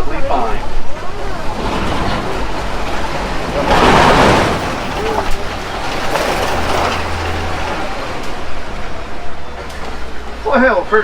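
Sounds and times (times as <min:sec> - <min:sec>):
loud rush of noise: 0:00.0 - 0:11.0
truck engine rumble: 0:00.0 - 0:11.0.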